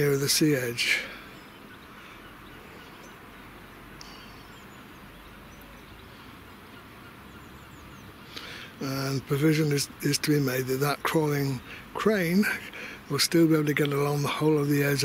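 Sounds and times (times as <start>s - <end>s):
bird chirps: 0.0s - 15.0s
outdoor background hiss: 0.0s - 15.0s.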